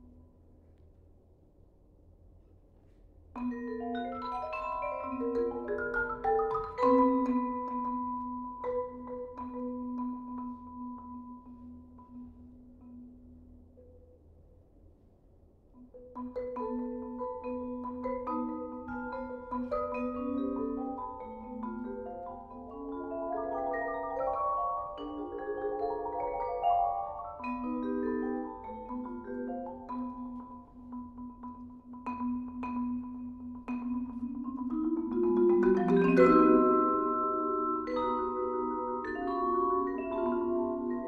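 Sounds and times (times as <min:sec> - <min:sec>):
marimbas and vibraphone playing: 0:03.4 - 0:14.6, 0:15.8 - 0:41.0.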